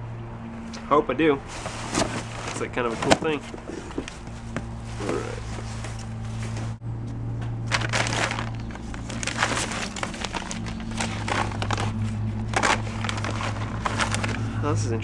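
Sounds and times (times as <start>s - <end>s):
steady low hum: 0.0s - 15.0s
envelopes rustling and crinkling: 1.4s - 6.8s, 7.6s - 14.6s.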